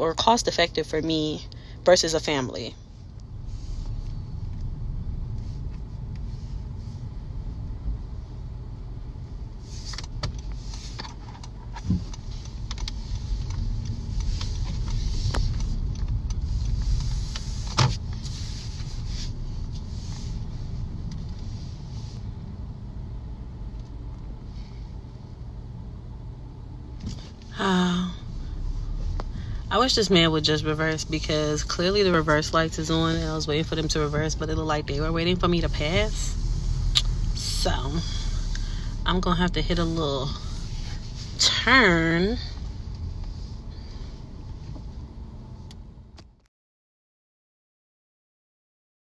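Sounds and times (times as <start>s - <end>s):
car engine and tyres rumbling: 0.0s - 46.5s.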